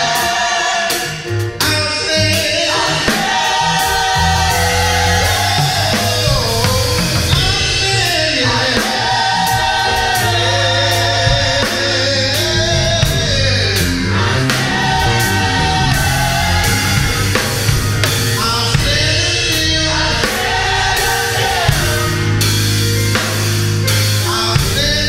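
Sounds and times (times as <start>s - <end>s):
gospel choir singing: 0.0s - 25.0s
live band bass and drums: 0.0s - 25.0s.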